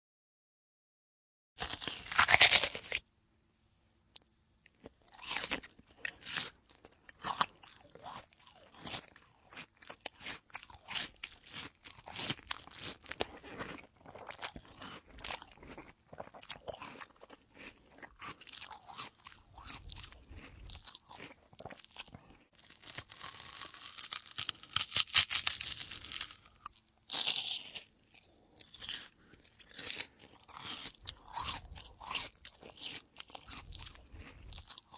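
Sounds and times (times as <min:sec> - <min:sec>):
person biting an apple: 0:01.6 - 0:03.0, 0:04.8 - 0:34.9
crunchy chewing: 0:01.6 - 0:03.1, 0:04.2 - 0:34.9.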